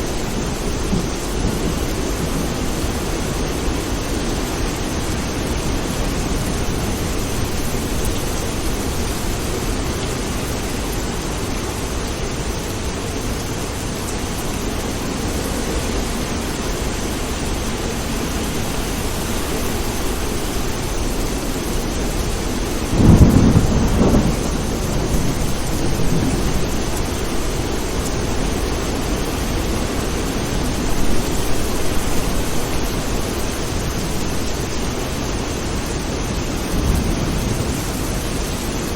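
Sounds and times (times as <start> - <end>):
thunderclap and rumble: 0.0 - 12.9, 13.7 - 38.9
steady rain: 0.0 - 38.9.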